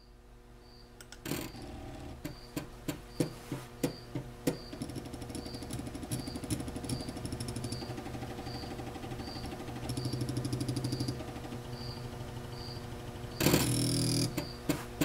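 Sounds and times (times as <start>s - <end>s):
stepper motors clicking and buzzing: 1.0s - 3.0s, 4.5s - 15.0s.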